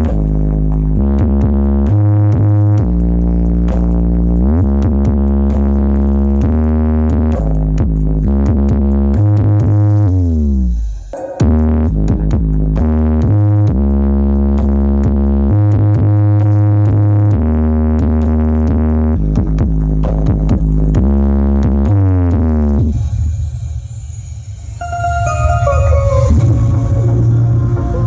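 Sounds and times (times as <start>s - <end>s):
electronic dance music with heavy bass: 0.0s - 23.0s, 24.8s - 28.0s.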